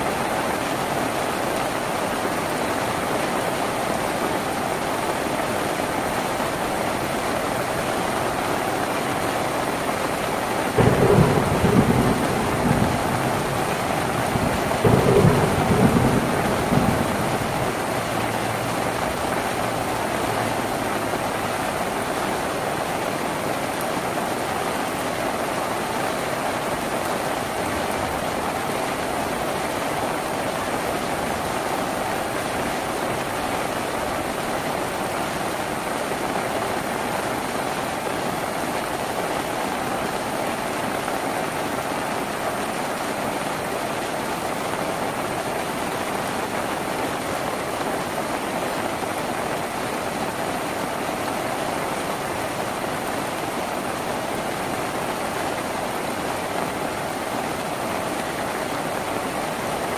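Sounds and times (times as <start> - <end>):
rain on a tin roof: 0.0 - 59.9.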